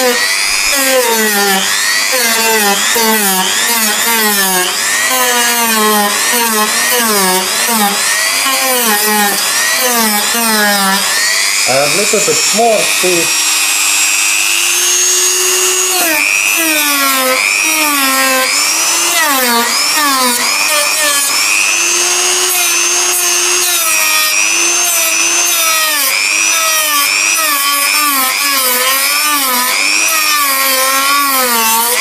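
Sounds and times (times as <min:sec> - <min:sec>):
rotary tool grinding plastic: 0:00.0 - 0:32.0.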